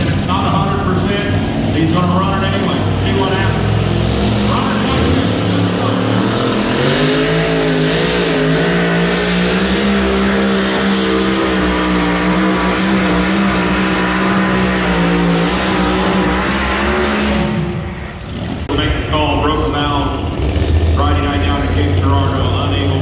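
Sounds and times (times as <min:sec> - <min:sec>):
engine running at high revs: 0:00.0 - 0:23.0.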